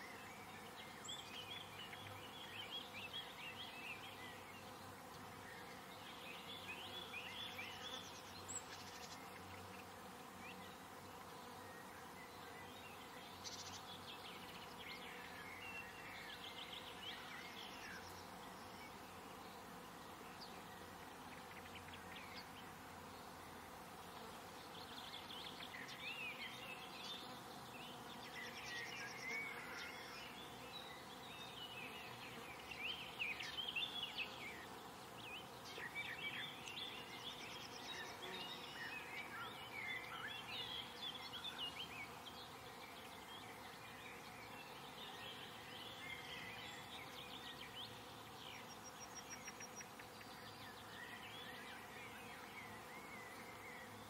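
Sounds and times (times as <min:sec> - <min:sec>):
insects buzzing: 0:00.0 - 0:54.0
songbirds chirping: 0:00.0 - 0:54.0.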